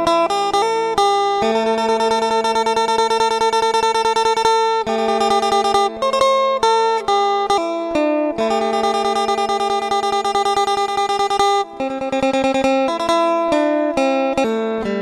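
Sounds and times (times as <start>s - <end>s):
picked guitar chords: 0.0s - 15.0s.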